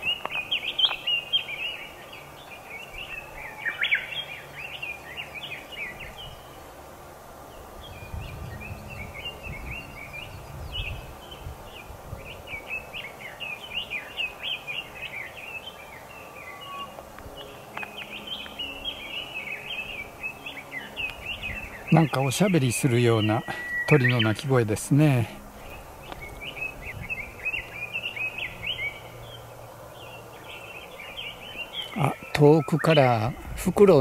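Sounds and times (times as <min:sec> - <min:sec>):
chattering bird song: 0:00.0 - 0:06.8, 0:07.4 - 0:34.0.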